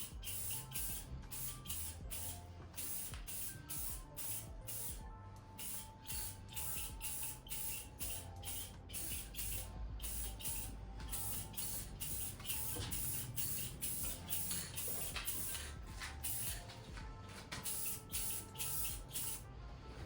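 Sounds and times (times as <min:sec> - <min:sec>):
spray paint hissing bursts: 0:00.0 - 0:05.0, 0:05.6 - 0:16.8, 0:17.4 - 0:19.4.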